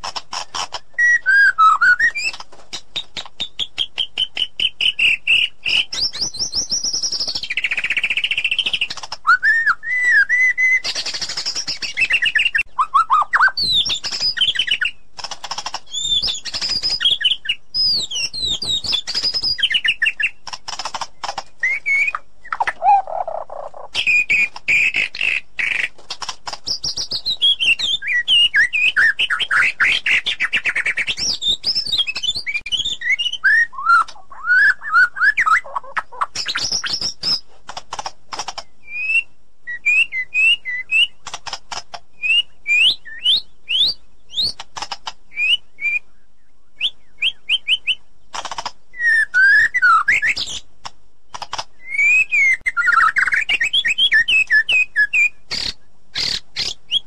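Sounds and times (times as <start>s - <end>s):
bird singing whistles and chirps: 0.8s - 15.0s, 15.9s - 20.4s, 21.2s - 25.9s, 26.6s - 37.4s, 38.7s - 41.2s, 42.2s - 44.6s, 45.3s - 48.1s, 48.9s - 50.6s, 51.8s - 57.0s.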